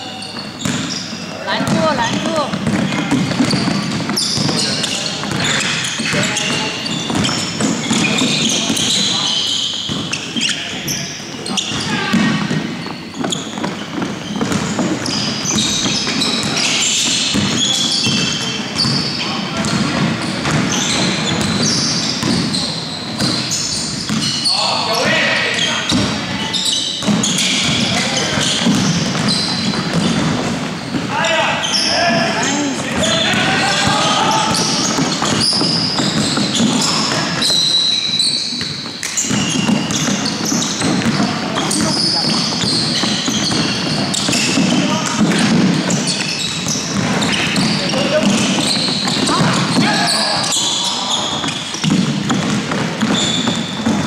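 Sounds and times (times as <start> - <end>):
shoes squeaking on hardwood court: 0.0 - 54.0
ball bouncing: 0.6 - 9.1, 11.5 - 22.6, 23.2 - 24.4, 27.0 - 31.1, 32.9 - 37.6, 38.5 - 49.9, 51.3 - 54.0.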